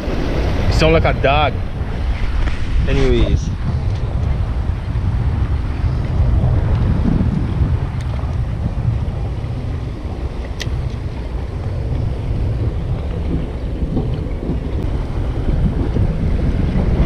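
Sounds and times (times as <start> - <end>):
sea water washing against rocks: 0.0 - 17.0
wind buffeting microphone: 0.0 - 17.0.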